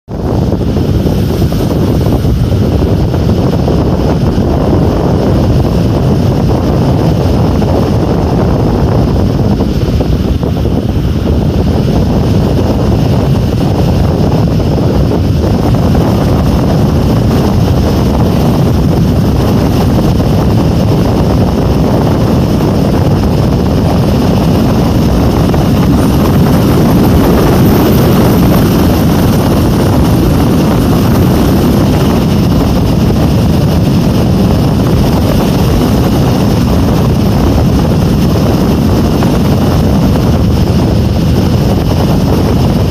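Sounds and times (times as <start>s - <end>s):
strong wind blowing: 0.0s - 42.9s.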